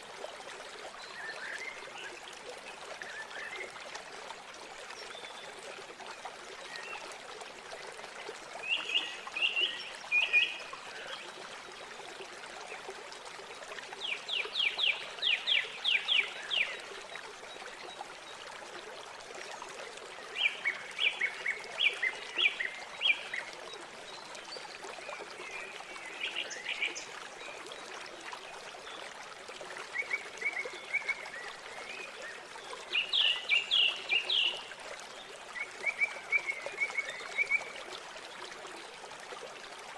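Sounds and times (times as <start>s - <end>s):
flowing river water: 0.0s - 39.9s.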